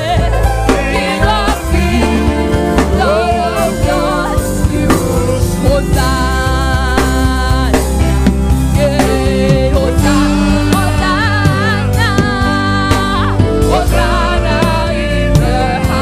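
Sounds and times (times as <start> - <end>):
choir singing gospel with band: 0.0 - 16.0.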